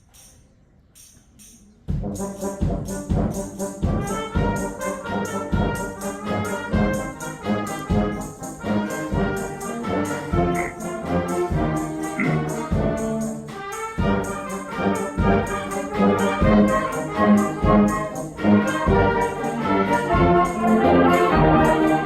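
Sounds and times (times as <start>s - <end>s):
tambourine: 0.0s - 22.0s
band playing with horns: 2.0s - 22.0s.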